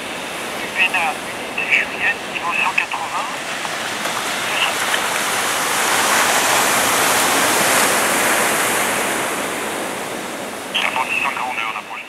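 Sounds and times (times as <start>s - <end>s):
turboprop aircraft engines rushing: 0.0s - 12.0s.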